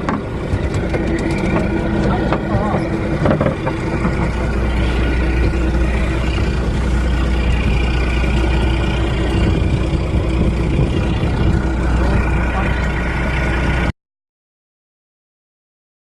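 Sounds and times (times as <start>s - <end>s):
boat engine droning: 0.0s - 13.9s.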